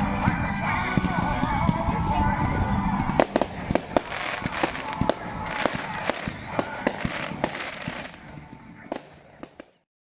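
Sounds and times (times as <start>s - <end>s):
fireworks bangs and crackles: 0.0s - 9.8s.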